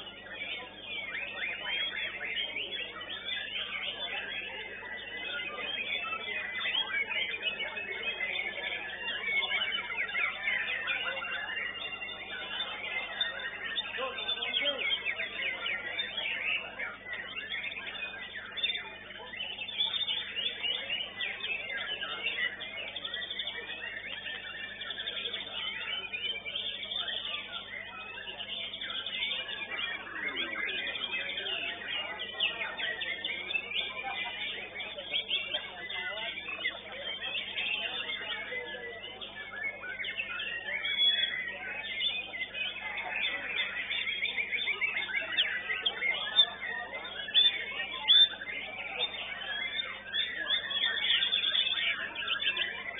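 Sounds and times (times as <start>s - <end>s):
bird singing whistled notes: 0.0s - 52.9s.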